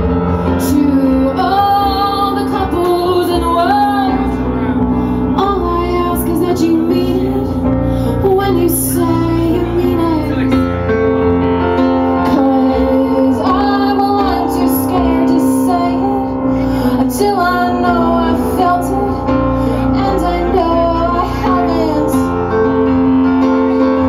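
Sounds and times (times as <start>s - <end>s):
bass: 0.0s - 24.0s
keyboard: 0.0s - 24.0s
woman singing: 0.5s - 10.7s, 12.2s - 22.6s.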